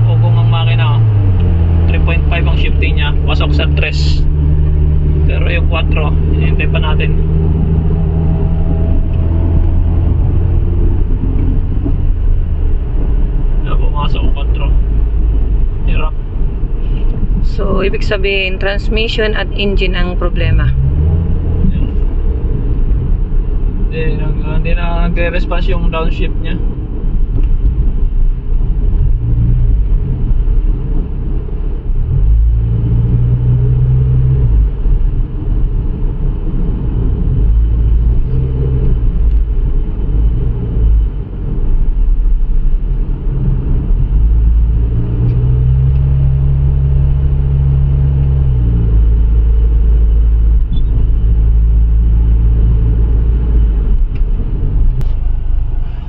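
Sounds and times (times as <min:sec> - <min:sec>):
car engine and road drone: 0:00.0 - 0:56.0.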